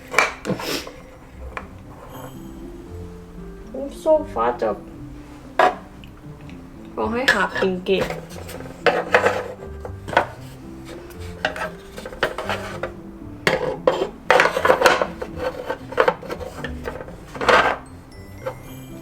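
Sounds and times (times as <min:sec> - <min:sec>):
quiet background music: 0:00.0 - 0:19.0.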